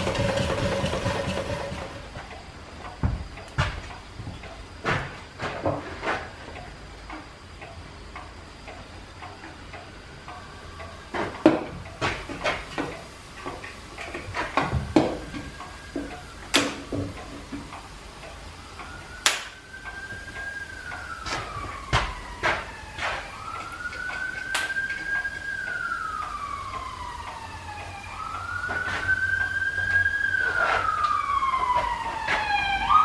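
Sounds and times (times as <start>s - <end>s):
sharp metallic knocks and clicks: 0.0s - 9.9s, 11.1s - 30.0s
faint whine: 0.0s - 33.0s.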